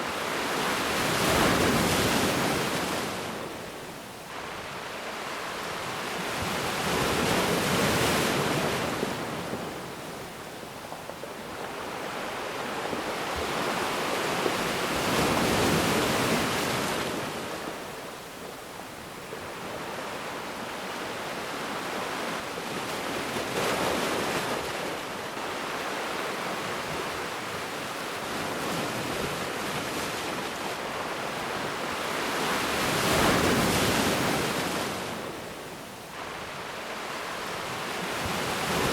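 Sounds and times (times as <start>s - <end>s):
ocean waves washing onto beach: 0.0s - 38.9s.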